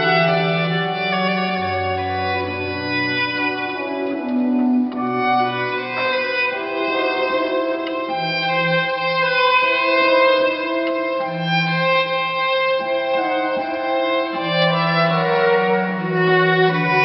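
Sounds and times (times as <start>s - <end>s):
classical chamber music: 0.0s - 17.0s.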